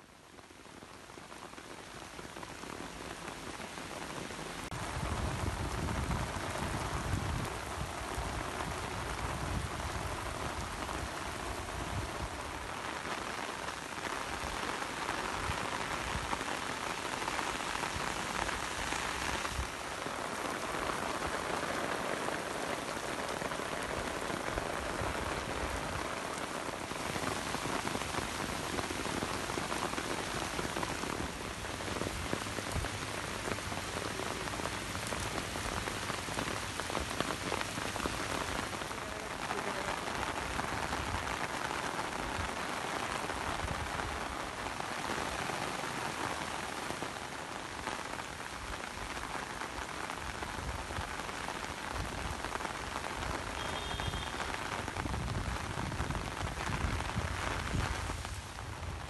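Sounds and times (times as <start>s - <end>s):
heavy rain on wet ground: 0.0s - 59.0s.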